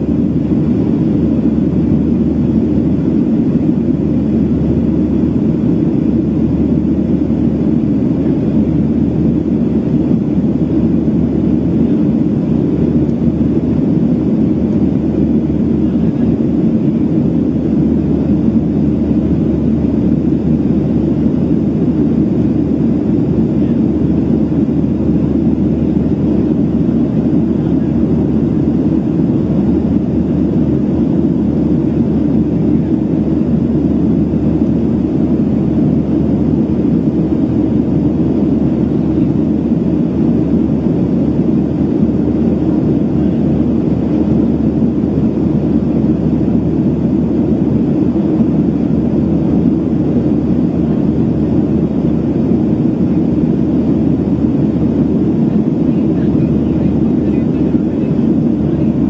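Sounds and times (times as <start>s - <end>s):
airplane cabin engine rush: 0.0s - 59.0s.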